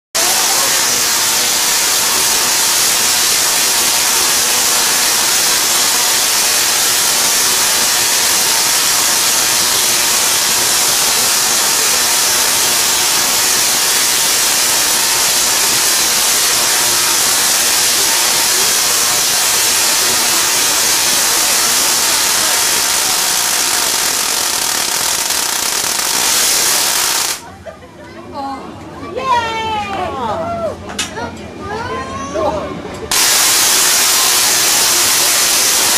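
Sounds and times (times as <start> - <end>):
tesla coil hissing crackle: 0.1 - 27.4, 33.1 - 35.9.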